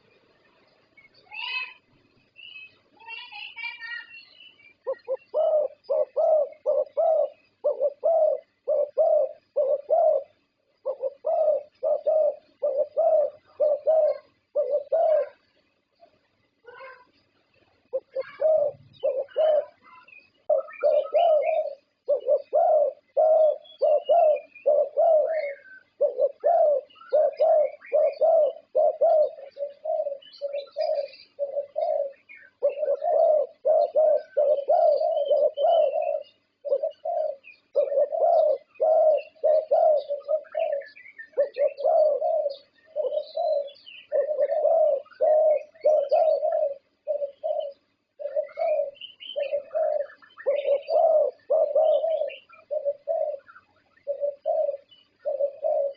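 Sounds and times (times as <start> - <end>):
dove cooing: 3.1 - 15.8, 17.5 - 55.9.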